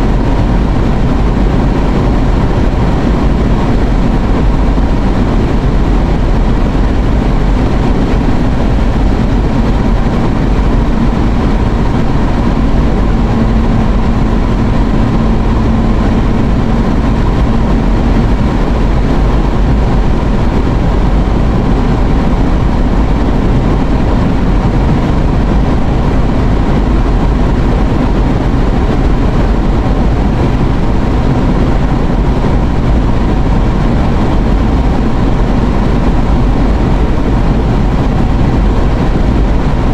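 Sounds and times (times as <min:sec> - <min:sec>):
faint steady hum: 0:00.0 - 0:39.9
road and engine noise in car: 0:00.0 - 0:39.9.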